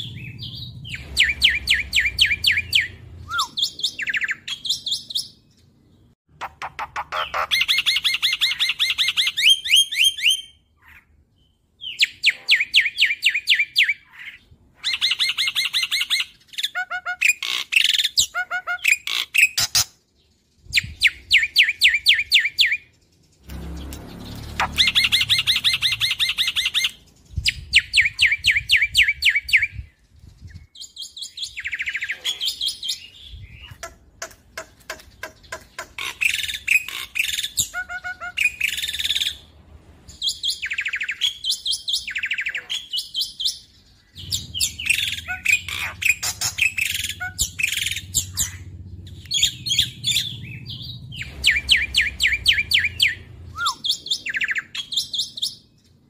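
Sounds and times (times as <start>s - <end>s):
bird singing chattering song: 0.0s - 39.5s, 40.1s - 56.0s.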